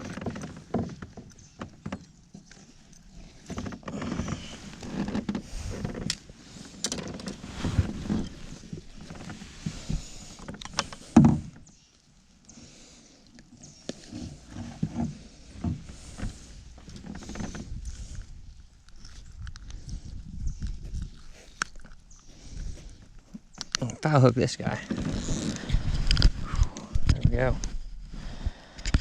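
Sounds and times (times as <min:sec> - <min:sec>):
fishing gear knocks and scrapes: 0:00.0 - 0:11.8, 0:13.8 - 0:23.8, 0:24.6 - 0:27.4.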